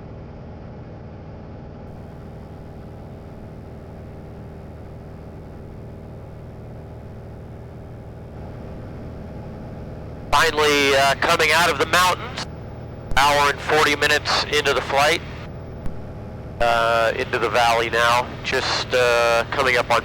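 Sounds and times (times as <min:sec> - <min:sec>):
light aircraft engine droning: 0:01.8 - 0:20.0.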